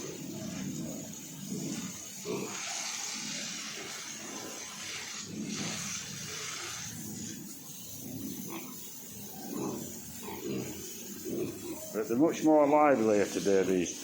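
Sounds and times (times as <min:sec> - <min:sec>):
hose spraying water: 0:00.0 - 0:14.0
pigs grunting: 0:00.0 - 0:14.0.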